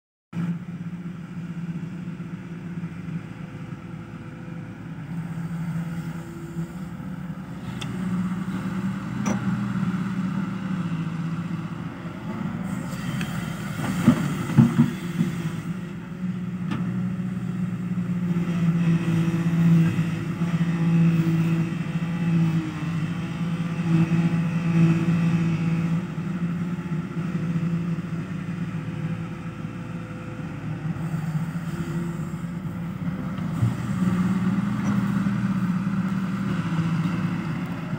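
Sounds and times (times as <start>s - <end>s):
excavator diesel engine running: 0.4s - 37.9s.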